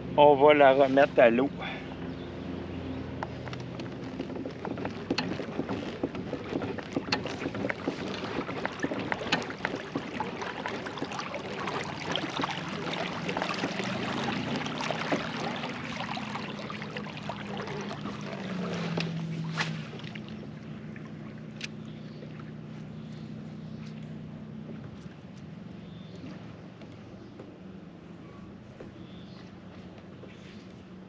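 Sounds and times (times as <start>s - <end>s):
water lapping against kayak hull: 2.0s - 31.0s.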